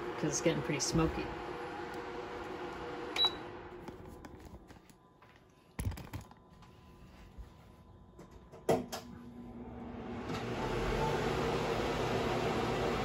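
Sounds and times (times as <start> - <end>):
kitchen fan humming: 0.0 - 5.0, 5.8 - 13.0.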